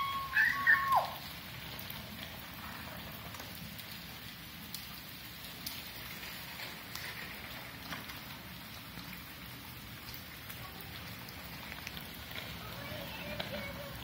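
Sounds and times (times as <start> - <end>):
heavy rain on concrete: 0.0 - 14.0
sharp raindrop ticks: 0.0 - 14.0.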